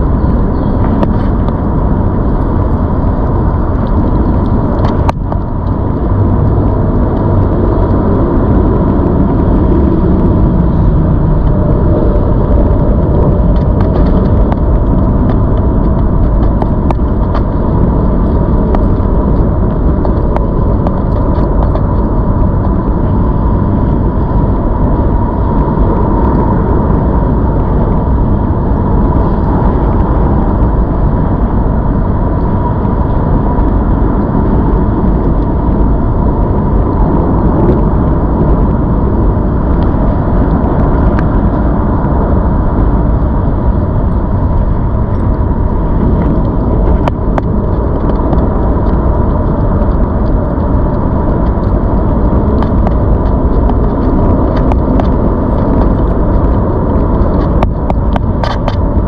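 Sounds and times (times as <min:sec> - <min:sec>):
electric bike rolling noise: 0:00.0 - 0:59.0
faint steady whine: 0:00.0 - 0:59.0
wind rushing: 0:00.0 - 0:59.0.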